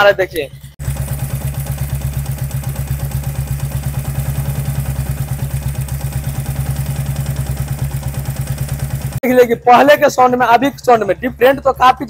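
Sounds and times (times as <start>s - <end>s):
engine ticking: 0.0s - 12.0s
motorcycle engine idling: 0.0s - 12.0s.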